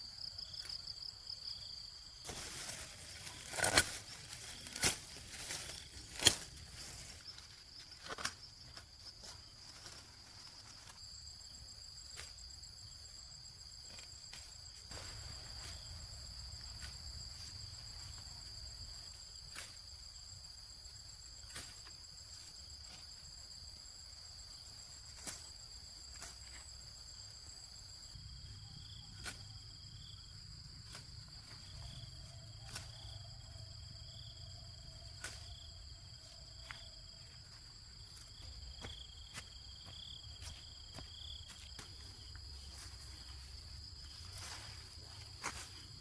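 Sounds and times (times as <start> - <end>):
insects chirring: 0.0 - 46.0.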